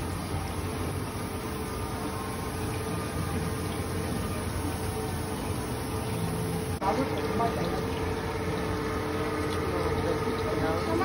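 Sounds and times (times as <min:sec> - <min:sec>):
water churning: 0:00.0 - 0:11.0
water pump humming: 0:00.0 - 0:11.0.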